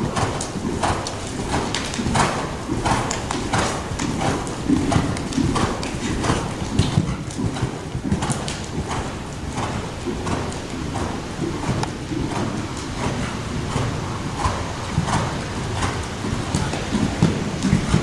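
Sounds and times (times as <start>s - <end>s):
horse hooves trotting on soft ground: 0.0s - 18.0s.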